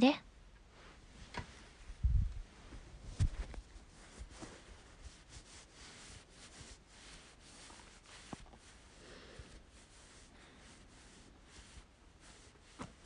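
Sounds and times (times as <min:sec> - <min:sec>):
cloth rustling near microphone: 0:00.7 - 0:13.0.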